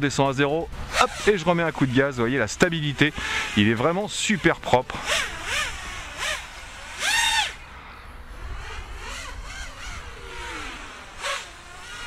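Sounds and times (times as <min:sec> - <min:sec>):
quadcopter motors whining: 0:00.4 - 0:12.0.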